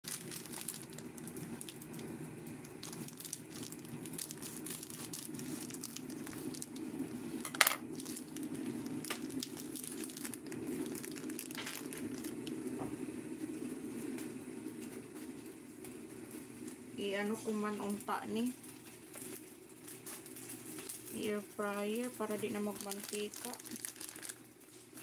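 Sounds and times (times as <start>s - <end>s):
steady low hum: 0.0s - 23.6s
rustling and crinkling: 0.0s - 25.0s.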